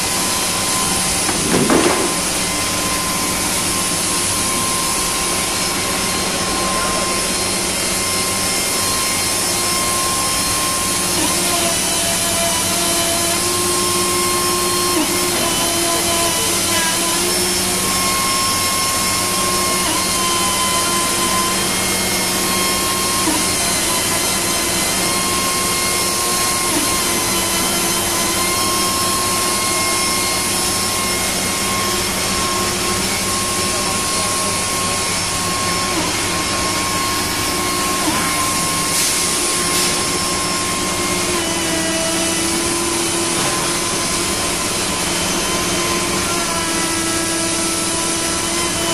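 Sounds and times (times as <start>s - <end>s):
router spindle whining: 0.0s - 48.9s.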